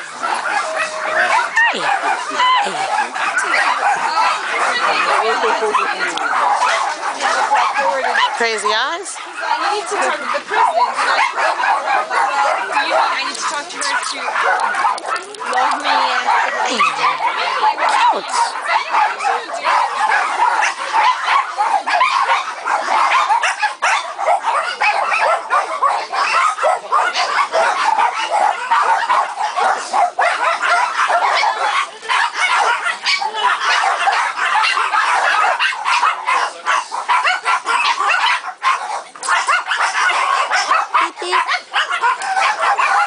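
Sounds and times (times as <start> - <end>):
many dogs barking and yipping: 0.0 - 43.0.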